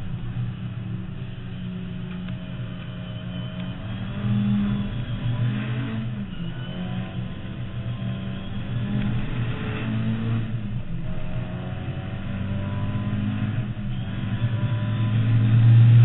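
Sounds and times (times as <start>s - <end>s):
car engine revving in cabin: 0.0s - 16.0s.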